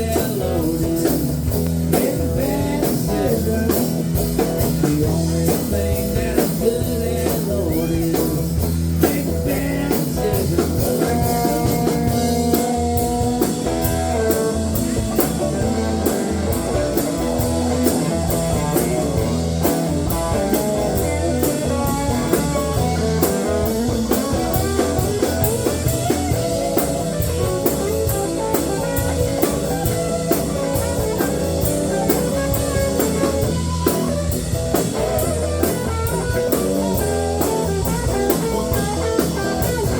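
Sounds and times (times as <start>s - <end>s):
lead guitar with bent notes: 0.0s - 39.9s
rock band playing blues-rock: 0.0s - 39.9s.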